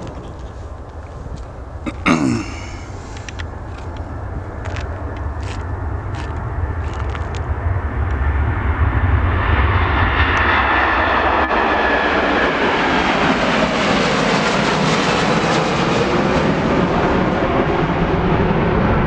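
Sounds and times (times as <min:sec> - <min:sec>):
jet airliner engines rushing: 0:00.0 - 0:19.0.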